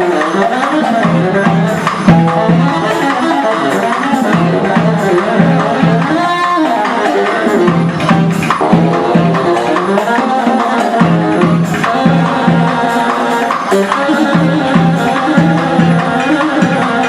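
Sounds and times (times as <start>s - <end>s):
drums and percussion beat: 0.0s - 17.0s
live band playing: 0.0s - 17.0s.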